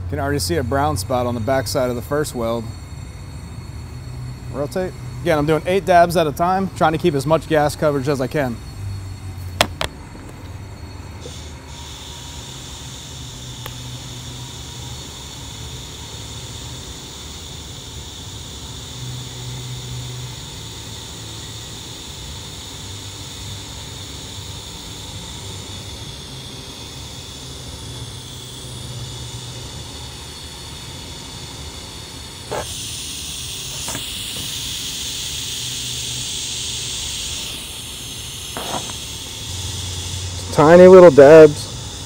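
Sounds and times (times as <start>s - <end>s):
welding arc hiss: 0.0s - 42.0s.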